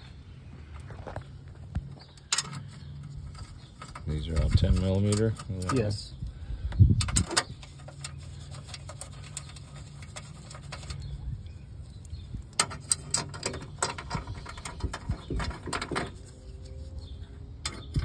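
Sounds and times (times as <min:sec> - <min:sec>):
clicks and rattles on metal: 0:01.5 - 0:11.2, 0:11.9 - 0:16.7, 0:17.6 - 0:18.0.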